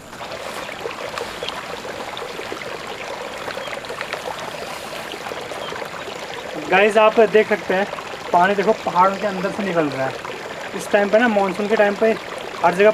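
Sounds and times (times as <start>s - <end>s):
spring water trickling: 0.0s - 12.9s.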